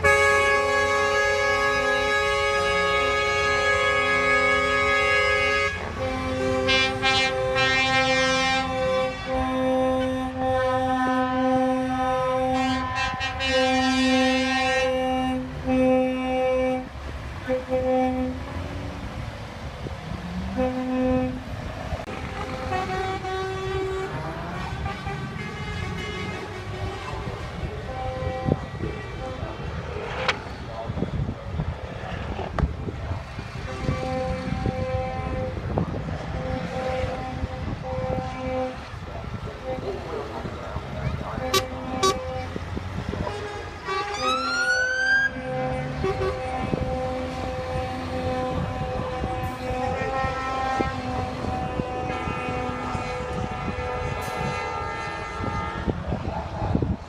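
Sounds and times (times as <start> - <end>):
vehicle horn honking: 0.0 - 18.4, 20.5 - 21.6, 22.3 - 30.3, 33.6 - 56.1
low rumble of vehicles: 0.0 - 57.0.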